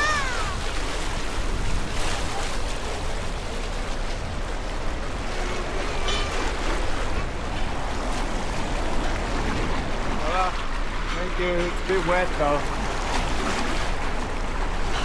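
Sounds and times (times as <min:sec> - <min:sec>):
water sloshing and lapping: 0:00.0 - 0:15.0.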